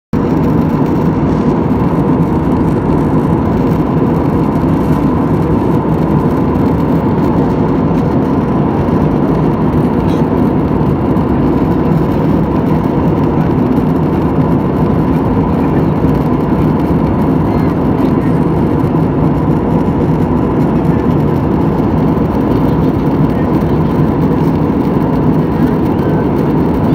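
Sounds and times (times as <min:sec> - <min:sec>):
jet airliner cabin drone: 0:00.2 - 0:26.9.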